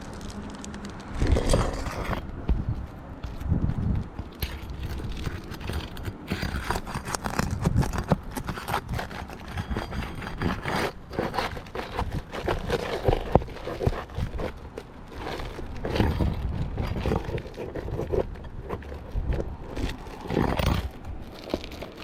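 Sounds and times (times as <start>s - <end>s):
shingles scraping and crackling: 0.0s - 22.0s.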